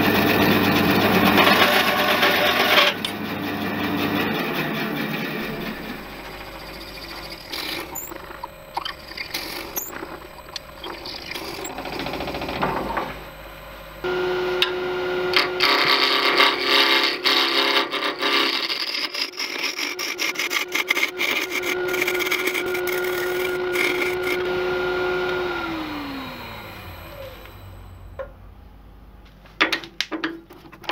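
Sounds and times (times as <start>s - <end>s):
turning tool shaving wood: 0.0s - 13.4s, 14.0s - 27.6s
wood lathe whine: 0.0s - 28.3s
drill bit boring into wood: 0.2s - 13.3s, 15.3s - 27.7s.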